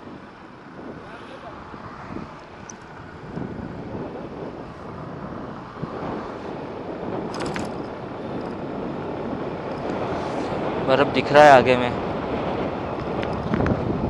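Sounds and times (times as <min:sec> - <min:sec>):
motorcycle engine and tyre noise: 0:00.0 - 0:14.0
wind on microphone: 0:00.0 - 0:14.0.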